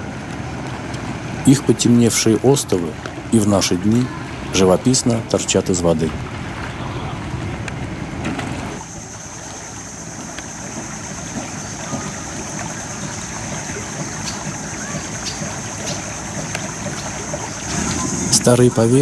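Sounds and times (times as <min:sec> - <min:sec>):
boat on water: 0:00.0 - 0:19.0.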